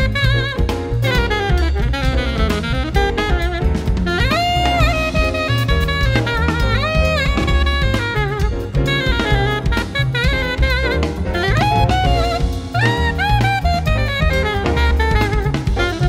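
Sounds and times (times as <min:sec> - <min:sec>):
alto saxophone lead: 0:00.0 - 0:16.0
bass: 0:00.0 - 0:16.0
drum kit: 0:00.0 - 0:16.0.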